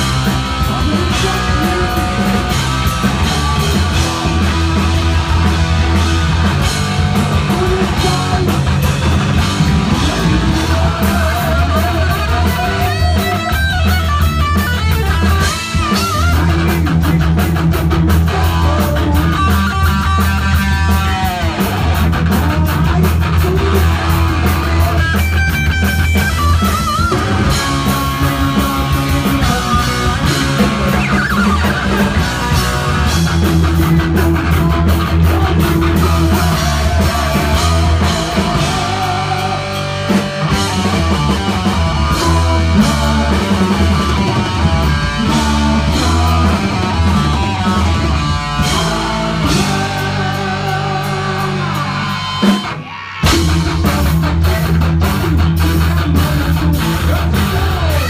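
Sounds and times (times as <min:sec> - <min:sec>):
distorted electric guitars: 0:00.0 - 0:58.0
pounding drum kit: 0:00.0 - 0:58.0.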